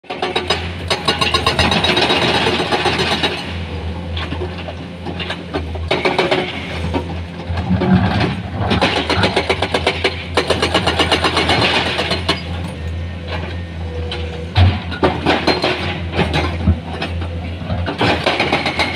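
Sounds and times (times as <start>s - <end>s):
excavator diesel engine: 0.0s - 18.9s
rattles and clanks of digging: 0.1s - 18.9s.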